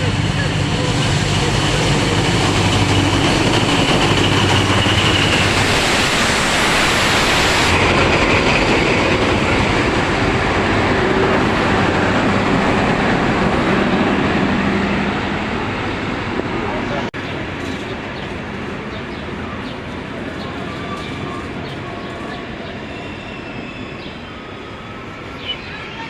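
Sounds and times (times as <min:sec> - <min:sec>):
diesel locomotive engine: 0:00.0 - 0:26.0
train wheels rolling on track: 0:00.0 - 0:26.0.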